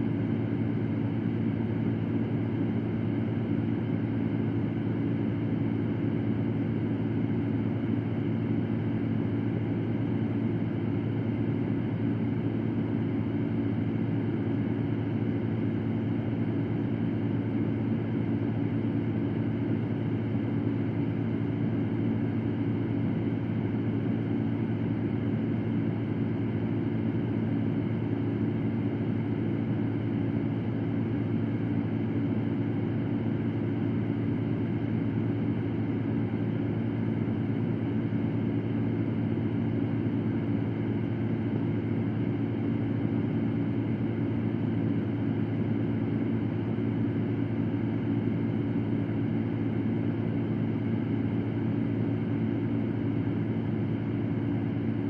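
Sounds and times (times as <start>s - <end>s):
electric fan whooshing hum: 0.0s - 55.0s.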